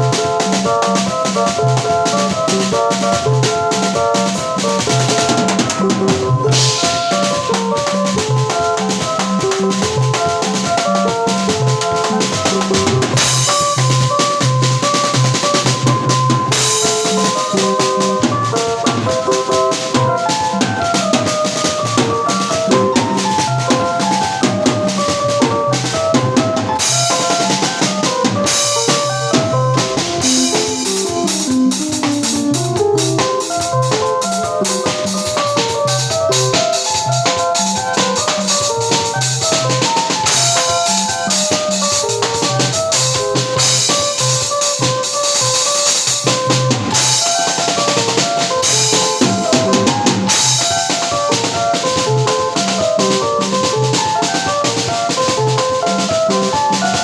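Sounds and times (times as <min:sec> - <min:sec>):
band music: 0:00.0 - 0:57.0
bass drum and snare beating: 0:00.0 - 0:57.0.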